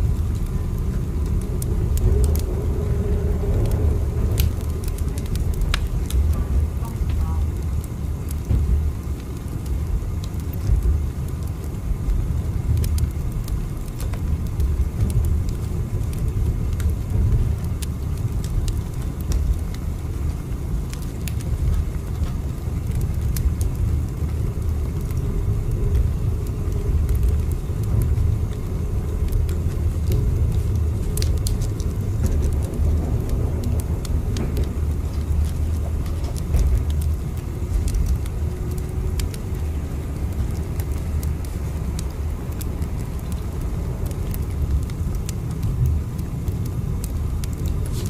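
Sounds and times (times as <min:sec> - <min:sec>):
train rumbling: 0:00.0 - 0:48.0.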